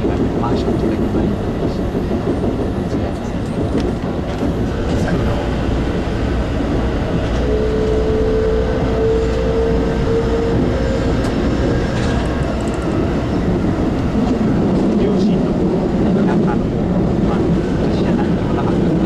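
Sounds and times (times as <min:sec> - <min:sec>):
train rumbling through tunnel: 0:00.0 - 0:19.0.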